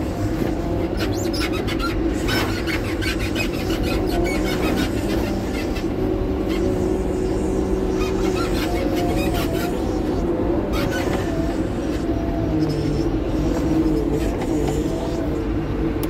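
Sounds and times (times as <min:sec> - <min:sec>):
diesel engine drone with whine: 0:00.0 - 0:16.0.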